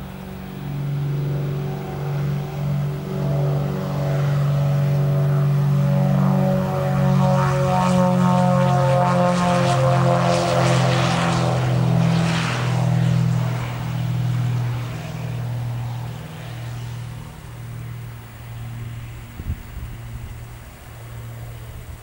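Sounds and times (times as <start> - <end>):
twin piston aircraft engines droning: 0.0 - 22.0.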